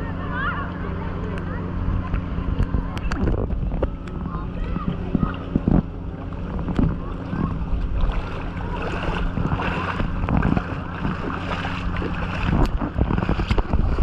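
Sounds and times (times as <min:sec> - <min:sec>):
boat engine humming: 0:00.0 - 0:14.0
water noise: 0:00.0 - 0:14.0
wind buffeting microphone: 0:01.4 - 0:14.0.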